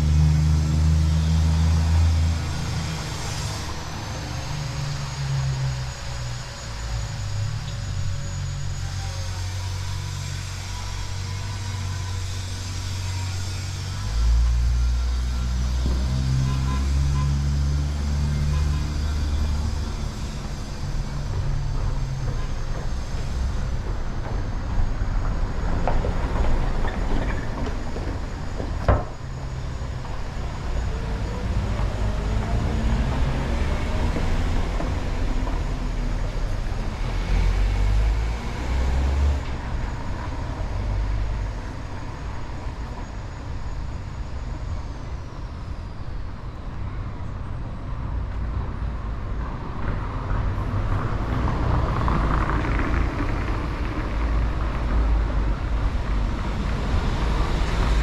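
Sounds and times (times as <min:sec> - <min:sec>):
vehicle engines passing: 0:00.0 - 0:10.7, 0:11.4 - 0:58.0.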